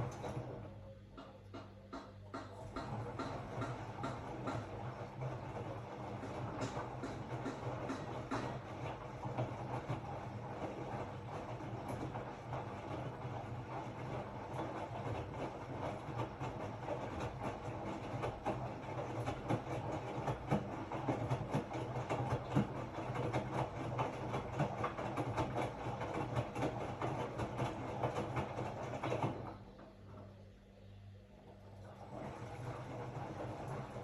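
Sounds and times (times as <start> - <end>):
washing machine motor hum: 0.0 - 34.0
washing machine drum rattling: 2.3 - 30.2, 31.8 - 34.0.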